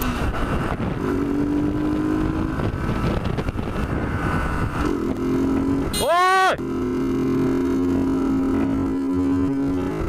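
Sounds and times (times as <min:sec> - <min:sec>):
motorcycle engine cruising: 0:00.0 - 0:10.0
wind rushing over microphone: 0:00.0 - 0:10.0.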